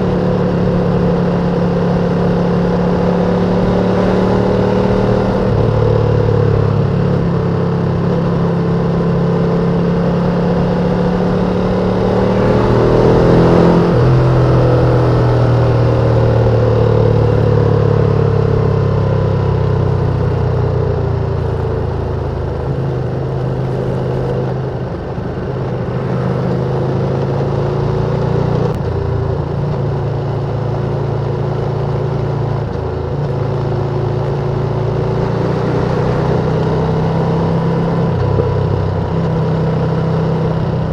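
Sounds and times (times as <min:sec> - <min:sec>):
motorcycle engines running: 0:00.0 - 0:40.9
wind and road noise: 0:00.0 - 0:40.9.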